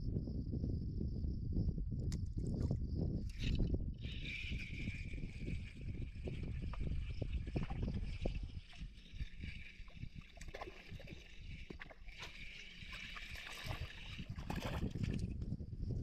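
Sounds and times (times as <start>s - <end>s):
water sloshing and gurgling: 2.1s - 15.5s.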